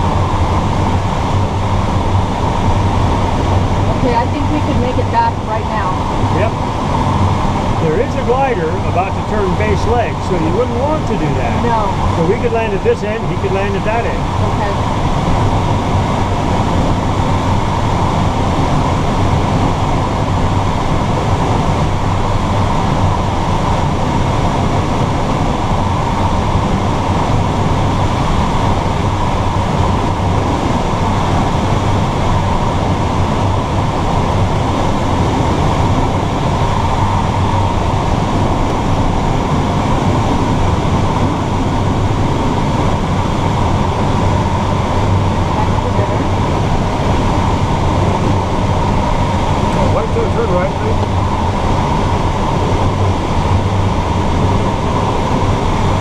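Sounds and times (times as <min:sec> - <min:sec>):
airflow rushing over canopy: 0:00.0 - 0:56.0.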